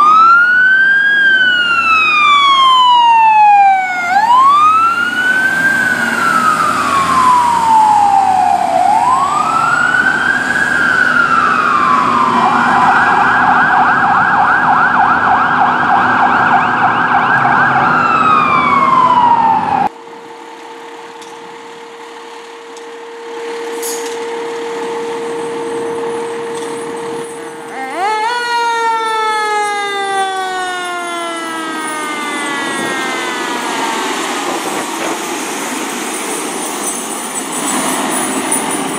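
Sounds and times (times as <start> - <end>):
quieter steady siren tone: 0.0 - 36.6
fire truck siren wailing and yelping: 0.0 - 38.9.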